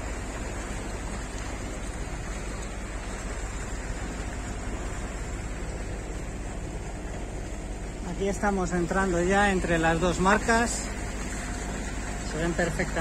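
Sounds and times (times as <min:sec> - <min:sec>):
wash of sea water: 0:00.0 - 0:13.0.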